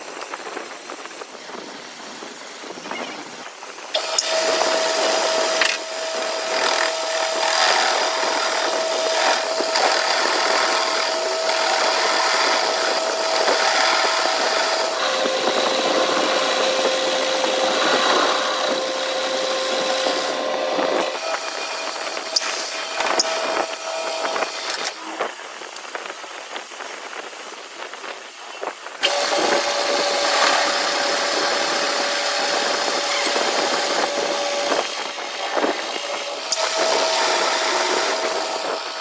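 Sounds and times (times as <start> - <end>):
power tool grinding metal: 3.9 - 25.9, 29.0 - 39.0.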